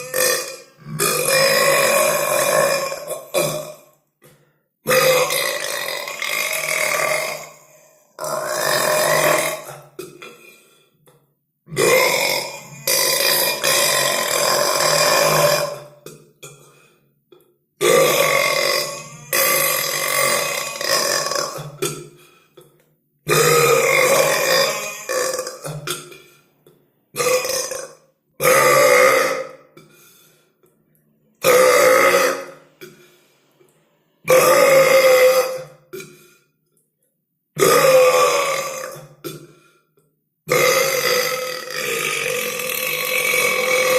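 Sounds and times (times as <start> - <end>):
person burping: 0.0 - 30.4, 31.4 - 33.2, 34.2 - 36.5, 37.6 - 43.9.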